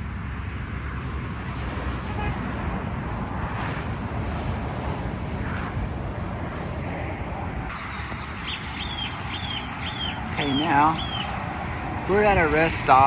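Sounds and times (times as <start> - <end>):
highway traffic noise: 0.0 - 13.0
wind rumbling on microphone: 0.0 - 13.0.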